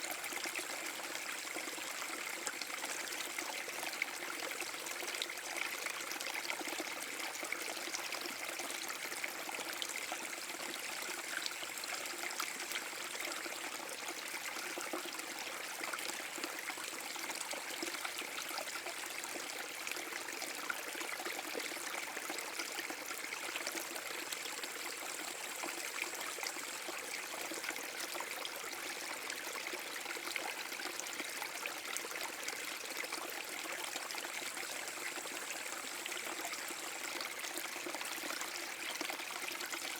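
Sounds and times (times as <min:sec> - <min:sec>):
brook water splashing and trickling: 0:00.0 - 0:39.9.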